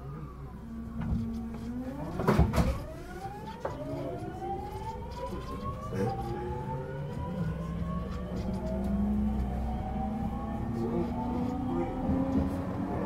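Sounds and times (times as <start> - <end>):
electric train inverter whining: 0.0 - 13.0.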